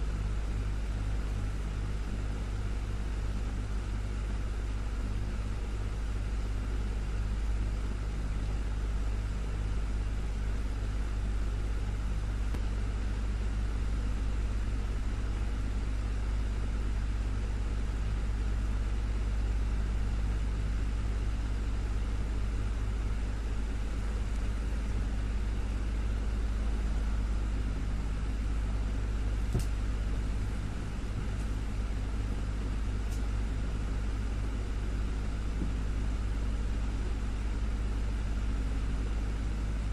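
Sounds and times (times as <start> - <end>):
desktop fan running: 0.0 - 39.9.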